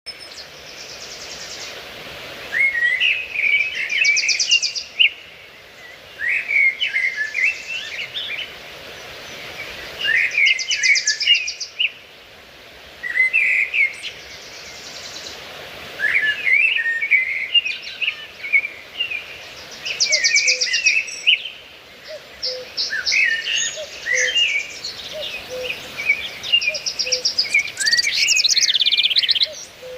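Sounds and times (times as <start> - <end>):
songbirds chirping and trilling: 0.1 - 29.9
steady background hiss: 0.1 - 29.9.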